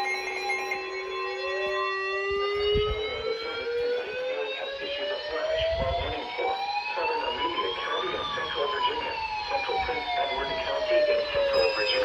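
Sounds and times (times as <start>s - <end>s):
siren wailing rising in pitch: 0.0s - 12.0s.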